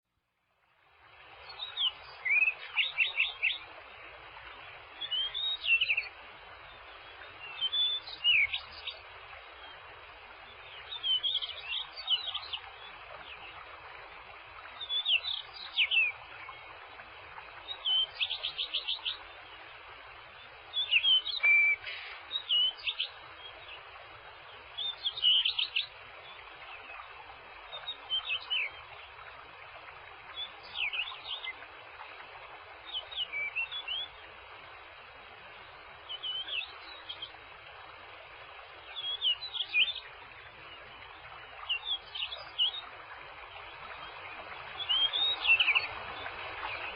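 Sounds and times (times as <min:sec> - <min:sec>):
steady hiss: 0:00.5 - 0:46.9
songbird chirping: 0:01.3 - 0:46.9.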